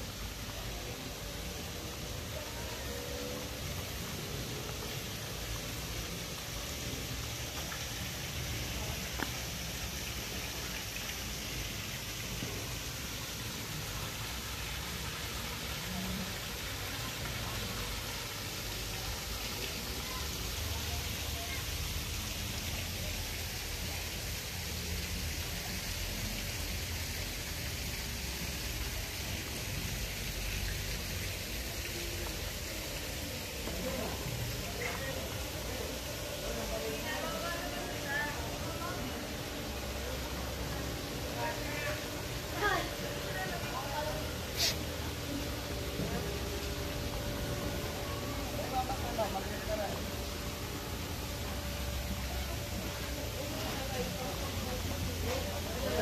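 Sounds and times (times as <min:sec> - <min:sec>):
rain on paving and water: 0:00.0 - 0:56.0.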